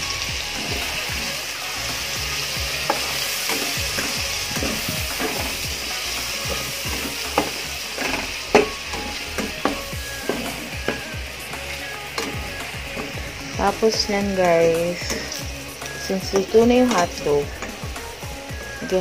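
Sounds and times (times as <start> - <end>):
food sizzling in oil: 0.0 - 19.0
spatula scraping pan: 2.6 - 18.0.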